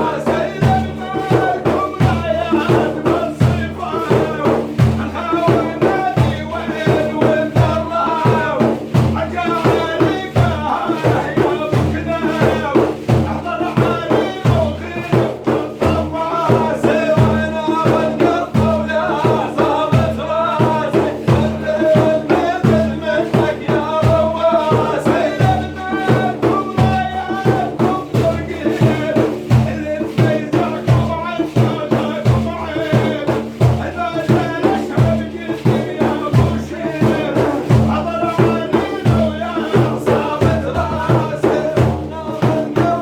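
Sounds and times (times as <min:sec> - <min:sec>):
drums beating steady rhythm: 0:00.0 - 0:43.0
man leading chanting: 0:00.0 - 0:43.0.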